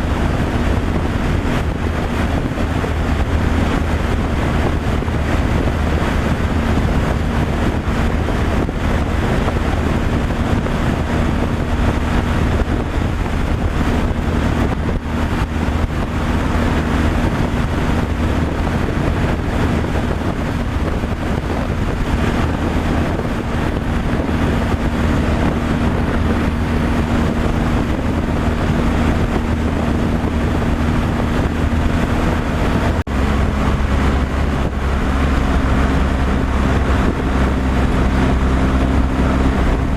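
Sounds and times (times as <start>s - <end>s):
road and wind noise: 0.0s - 39.9s
truck engine running: 0.0s - 39.9s.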